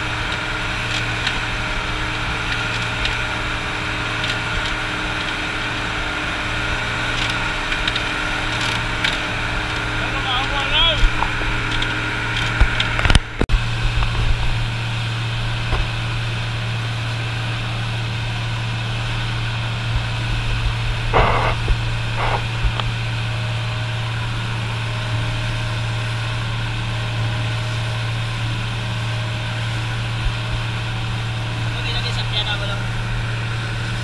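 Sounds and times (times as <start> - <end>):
boat engine droning: 0.0 - 34.0
water washing along hull: 0.0 - 34.0.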